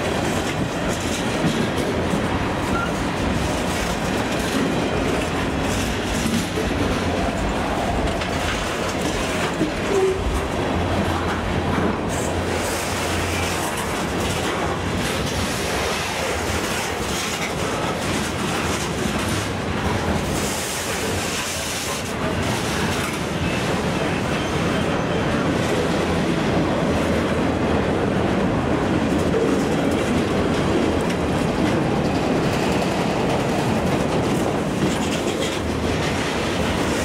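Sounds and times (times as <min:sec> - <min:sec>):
train wheels clacking on rail joints: 0:00.0 - 0:27.4, 0:28.4 - 0:37.0
freight cars rumbling and rattling: 0:00.0 - 0:37.0.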